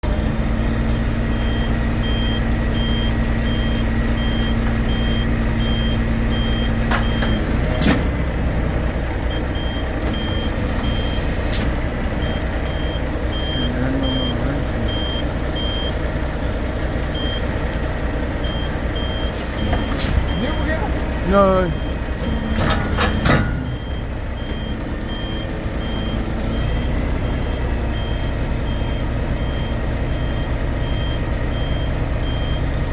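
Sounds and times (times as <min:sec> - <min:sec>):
truck diesel engine running: 0:00.0 - 0:32.9
reversing alarm beeping: 0:01.0 - 0:32.9.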